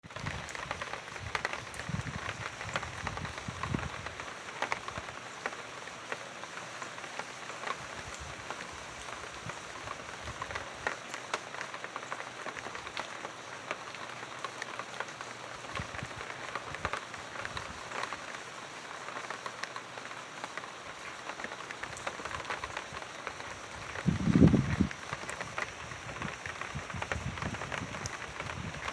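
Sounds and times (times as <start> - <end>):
rain falling: 0.0 - 28.9
raindrops ticking close by: 0.0 - 28.9.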